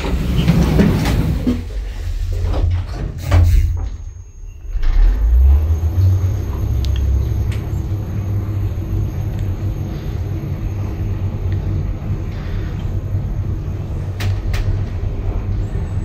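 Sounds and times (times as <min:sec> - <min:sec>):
lift car rumbling: 0:00.0 - 0:16.0.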